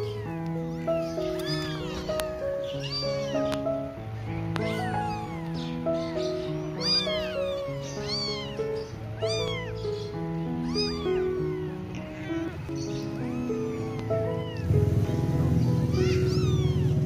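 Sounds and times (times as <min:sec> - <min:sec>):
cat meowing: 0:00.0 - 0:14.9, 0:15.6 - 0:17.0
background music with sustained notes: 0:00.0 - 0:17.0.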